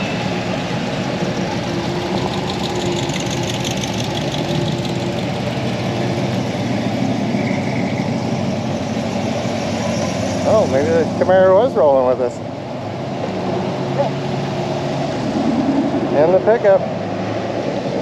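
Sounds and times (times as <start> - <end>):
car engines rumbling: 0.0 - 18.0.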